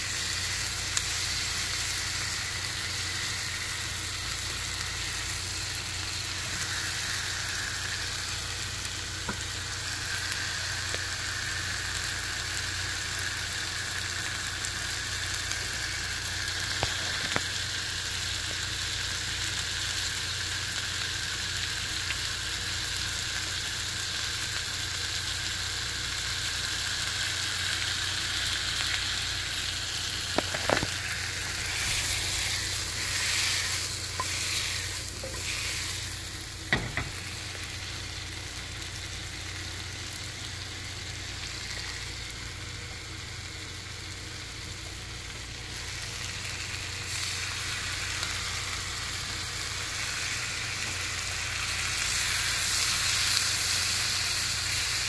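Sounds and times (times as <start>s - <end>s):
onions sizzling in a wok: 0.0s - 55.0s.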